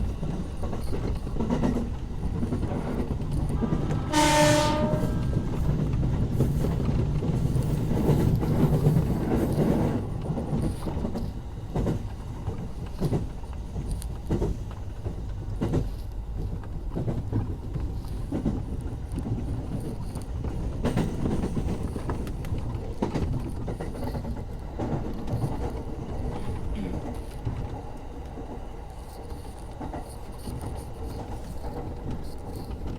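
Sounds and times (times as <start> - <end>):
train rumbling on rails: 0.0 - 32.9
train wheels clacking: 0.0 - 32.9.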